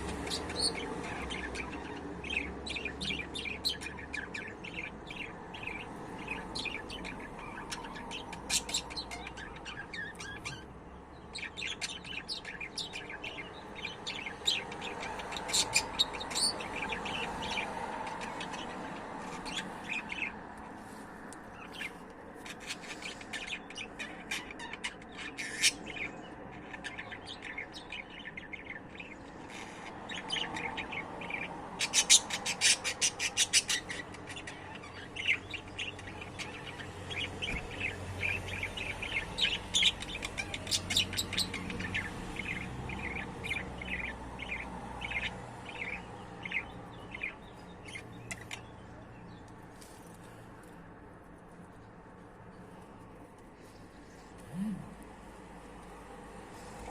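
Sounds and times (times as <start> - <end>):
budgerigars chirping: 0.0 - 10.7, 11.3 - 20.3, 21.6 - 48.9.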